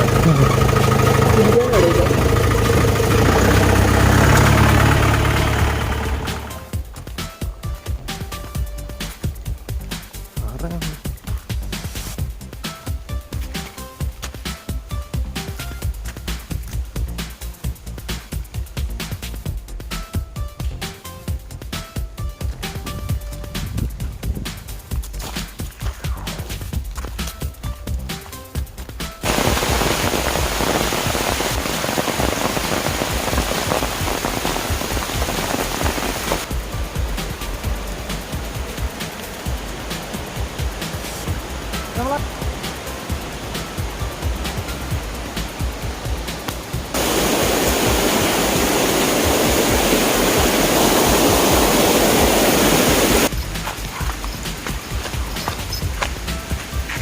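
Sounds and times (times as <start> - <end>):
water rushing and splashing: 0.0 - 19.4, 28.9 - 57.0
background music: 0.0 - 30.6, 33.8 - 57.0.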